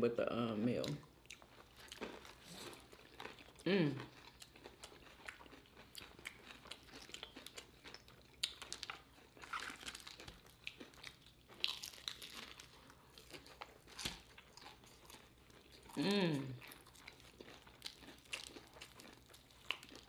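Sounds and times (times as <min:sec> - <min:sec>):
crunching fried chicken: 0:01.3 - 0:20.0.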